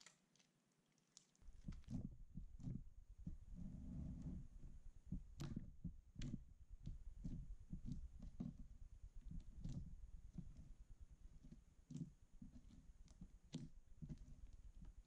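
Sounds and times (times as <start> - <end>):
slime squishing with sticky pops: 0.0 - 3.4, 5.1 - 15.0.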